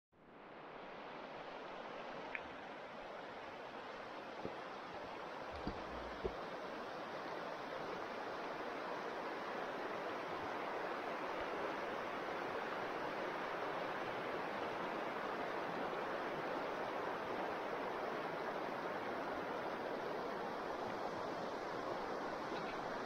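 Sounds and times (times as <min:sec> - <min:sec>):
river rushing over stones: 0:00.4 - 0:23.0.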